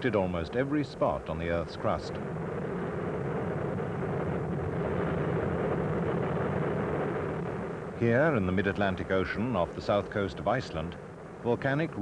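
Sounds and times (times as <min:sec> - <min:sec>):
volcano low rumble: 0:00.0 - 0:12.0.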